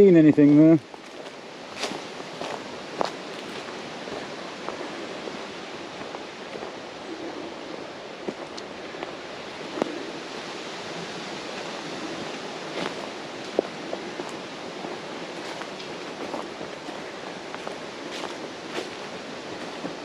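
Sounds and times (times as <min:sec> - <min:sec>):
wind in trees and microphone: 0:00.0 - 0:20.0.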